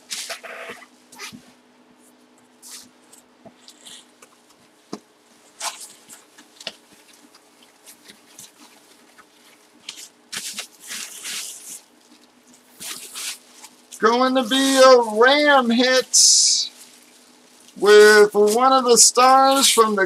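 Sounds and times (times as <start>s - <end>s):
paper and plastic bag crinkling: 3.6s - 20.0s.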